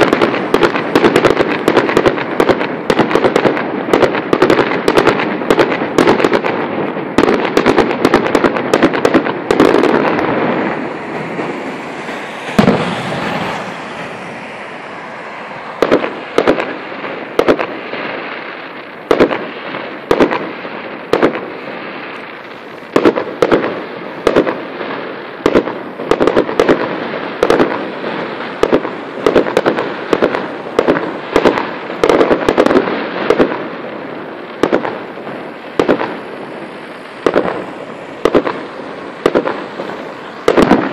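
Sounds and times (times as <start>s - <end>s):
fireworks bursting with bangs: 0.0s - 40.9s.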